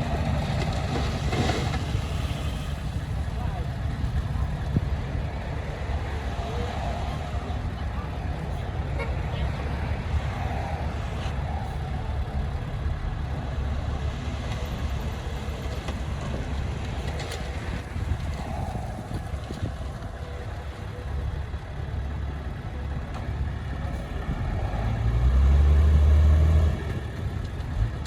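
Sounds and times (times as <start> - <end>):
diesel engine of earthmoving machinery: 0.0 - 28.0.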